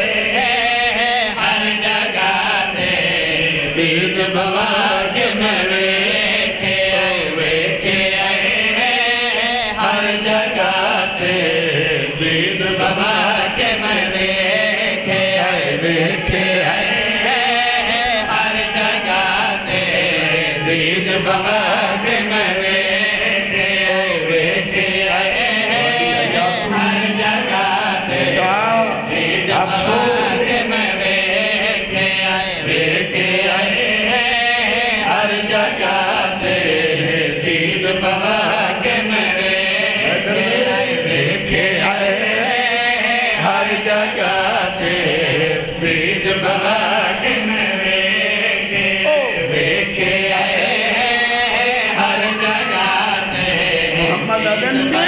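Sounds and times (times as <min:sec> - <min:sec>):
men chanting into microphones: 0:00.0 - 0:55.0.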